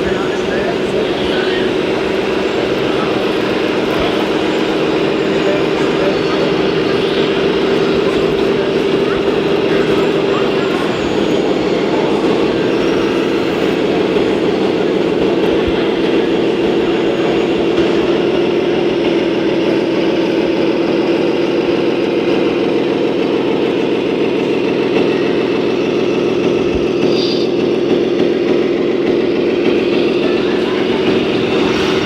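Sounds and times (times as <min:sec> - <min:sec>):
model motor humming: 0:00.0 - 0:32.0.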